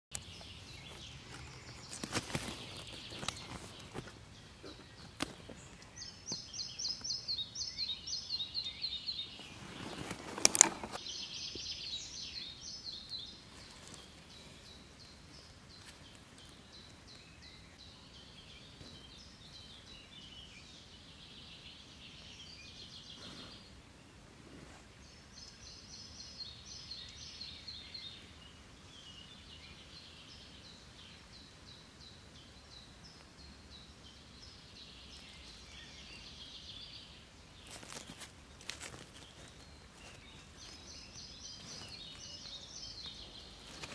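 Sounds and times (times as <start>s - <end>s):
faint outdoor background: 0.0s - 43.9s
songbird singing: 0.0s - 43.9s.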